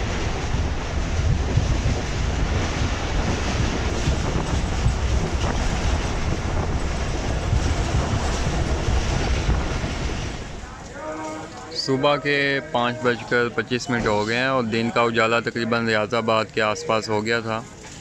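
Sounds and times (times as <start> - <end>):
train wheels rumbling over rails: 0.0 - 18.0.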